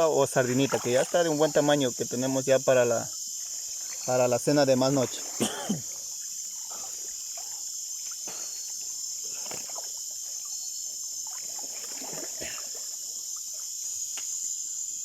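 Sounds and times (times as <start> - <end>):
water splashing and sloshing: 0.0 - 14.9
crickets chirping: 0.0 - 15.0.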